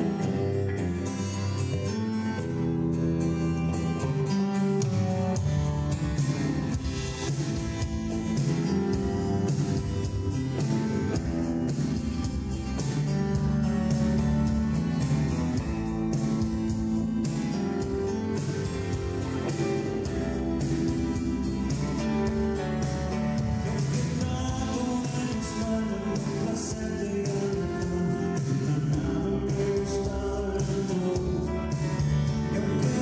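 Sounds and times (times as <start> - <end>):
live guitar music with beat: 0.0 - 33.0.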